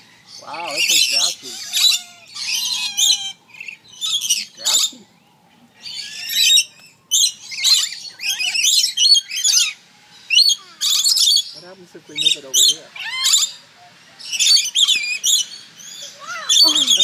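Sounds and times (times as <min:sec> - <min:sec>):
lorikeets screeching and chattering: 0:00.0 - 0:17.0.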